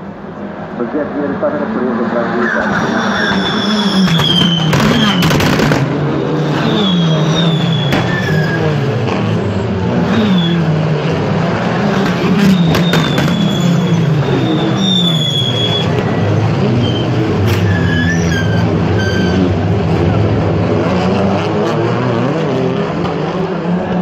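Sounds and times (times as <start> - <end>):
racing cars driving past: 0.0 - 24.0.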